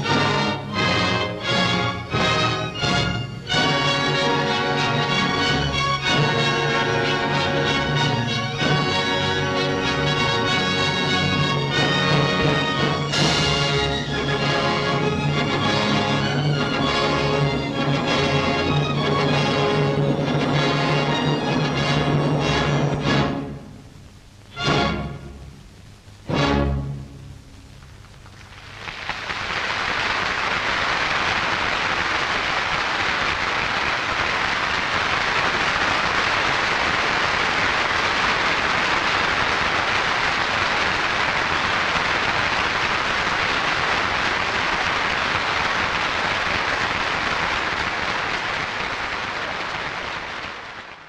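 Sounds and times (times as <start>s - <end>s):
audience applauding: 0.0s - 21.8s, 28.1s - 51.0s.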